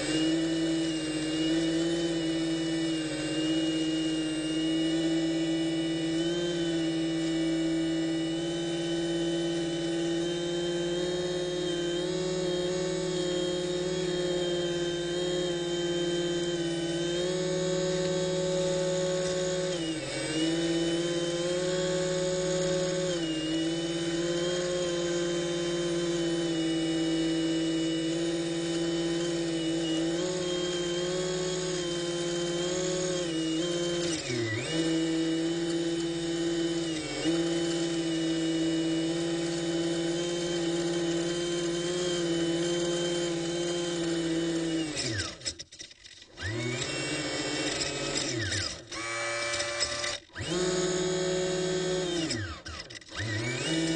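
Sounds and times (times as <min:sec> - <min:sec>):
electric motor whining: 0:00.0 - 0:53.9.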